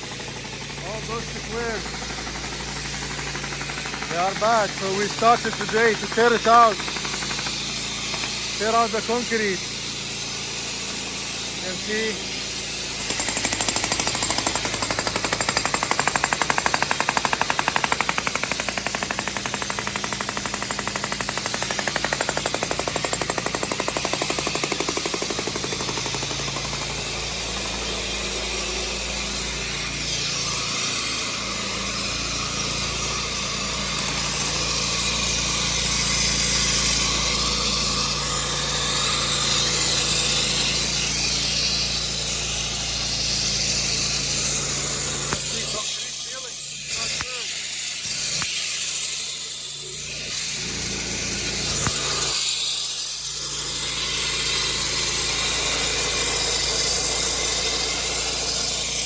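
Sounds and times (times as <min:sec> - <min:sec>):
jackhammer breaking concrete: 0:00.0 - 0:59.0.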